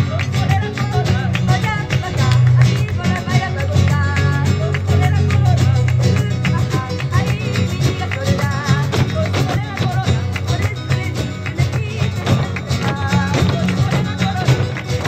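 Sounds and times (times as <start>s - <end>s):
acoustic guitar: 0.0s - 15.0s
person singing: 0.0s - 15.0s
sharp percussive hits and claps: 0.0s - 15.0s.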